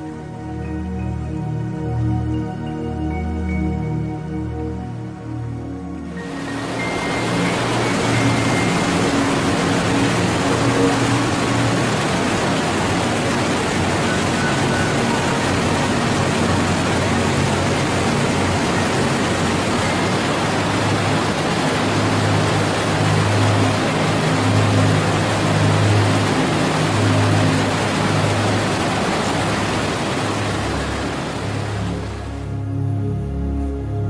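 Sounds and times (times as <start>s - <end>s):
waterfall rushing: 0.0s - 32.6s.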